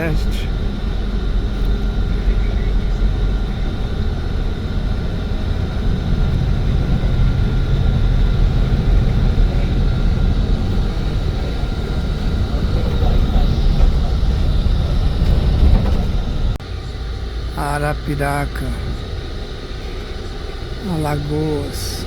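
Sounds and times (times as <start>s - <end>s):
vehicle road and engine noise: 0.0s - 22.0s.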